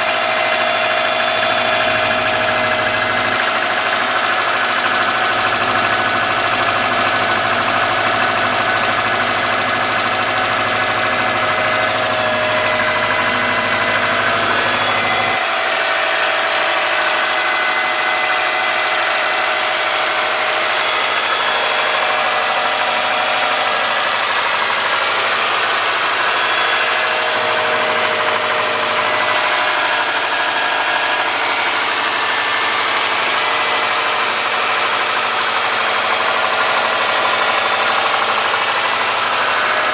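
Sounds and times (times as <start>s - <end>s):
car engine idling: 0.0s - 39.9s
engine ticking: 0.0s - 39.9s.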